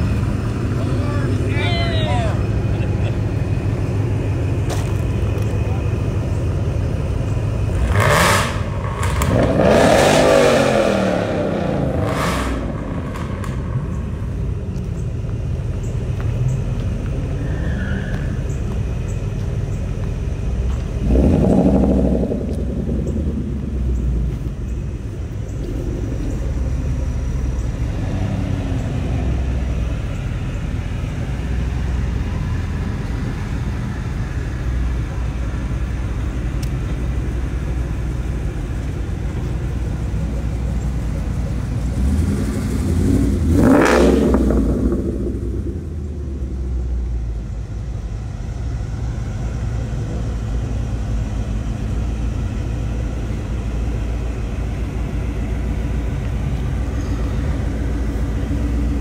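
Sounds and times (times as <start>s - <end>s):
car engines rumbling: 0.0s - 59.0s.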